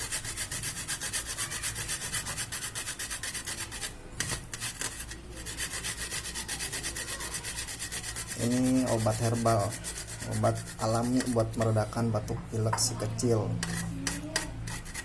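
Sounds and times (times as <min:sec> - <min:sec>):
shallot grated on hand grater: 0:00.0 - 0:12.1, 0:13.6 - 0:15.0.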